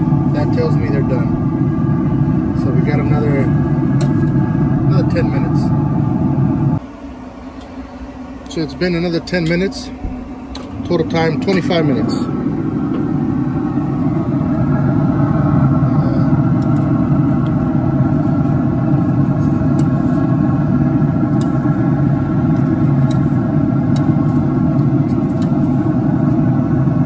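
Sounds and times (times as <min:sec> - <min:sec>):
loud motor hum: 0:00.0 - 0:27.0.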